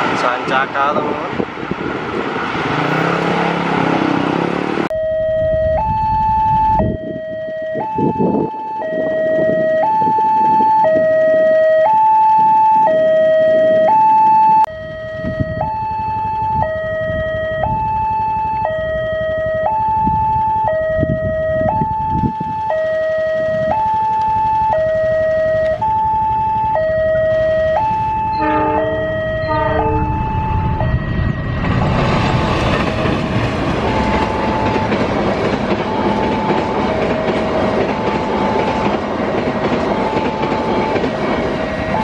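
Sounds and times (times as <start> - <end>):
two-tone electronic crossing alarm: 4.8 - 31.9, 32.7 - 42.0.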